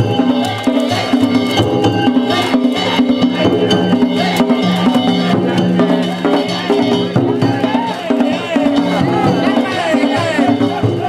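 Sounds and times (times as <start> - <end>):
drums in fast rhythm: 0.0 - 11.0.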